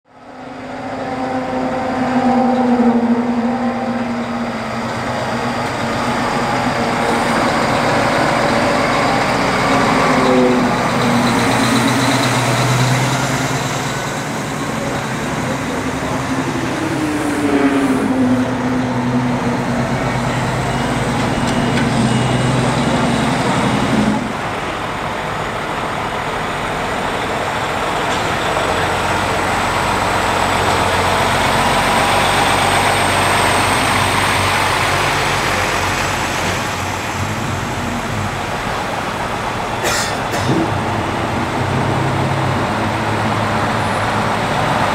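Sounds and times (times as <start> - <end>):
diesel trucks driving past: 0.1 - 44.9.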